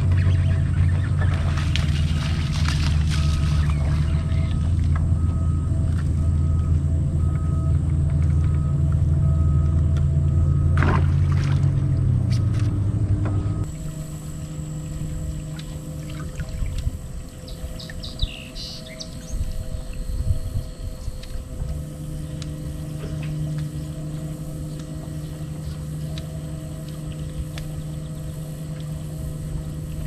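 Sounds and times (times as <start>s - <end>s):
electric trolling motor hum: 0.0s - 30.0s.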